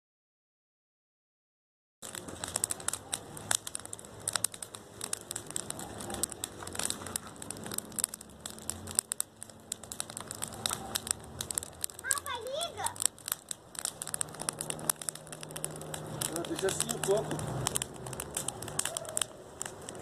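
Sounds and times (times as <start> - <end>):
campfire crackling and popping: 2.0 - 20.0.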